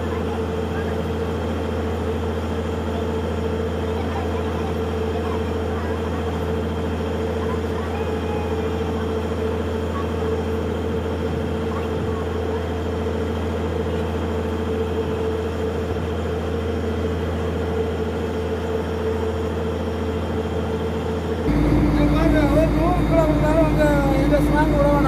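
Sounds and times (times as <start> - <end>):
constant hum: 0.0 - 25.0
diesel engine droning: 0.0 - 25.0.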